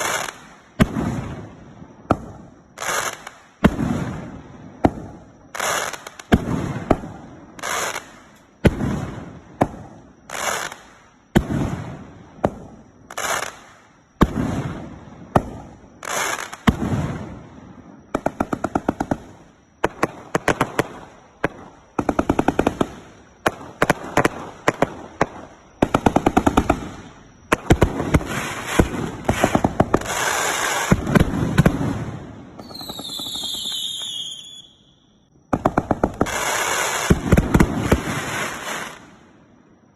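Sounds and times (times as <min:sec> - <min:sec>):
firework shots: 0:00.0 - 0:34.8, 0:35.5 - 0:39.2.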